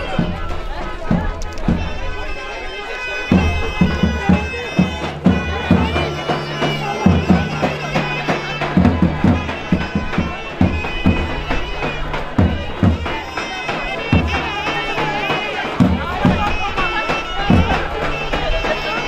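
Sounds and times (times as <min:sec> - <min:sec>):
shrill reed wind instrument melody: 0:00.0 - 0:19.0
steady drum beat: 0:00.0 - 0:19.0.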